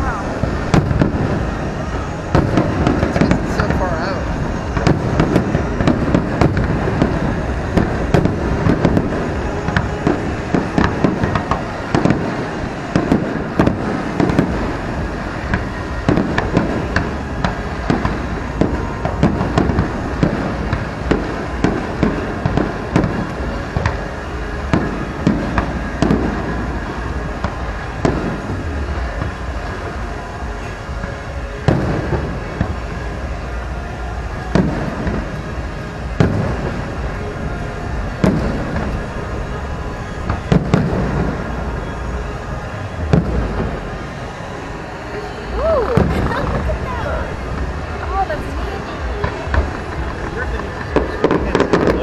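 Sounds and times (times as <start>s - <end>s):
fireworks bangs: 0.0s - 52.0s
fireworks crackling: 0.0s - 52.0s
low rumble: 0.0s - 52.0s.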